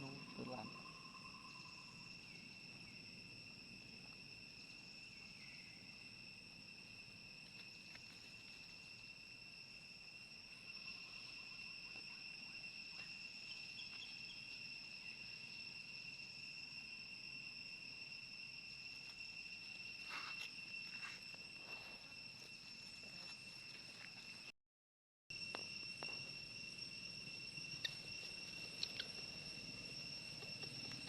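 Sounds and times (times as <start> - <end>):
insects droning: 0.0 - 24.6, 25.3 - 31.0.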